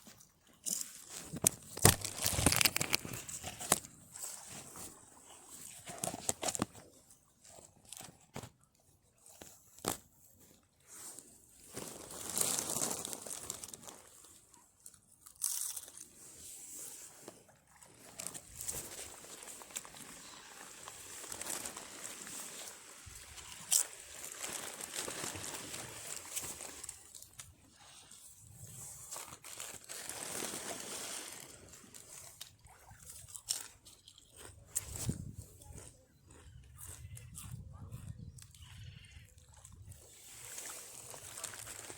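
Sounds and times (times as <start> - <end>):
crinkling and crunching: 0.0 - 41.9.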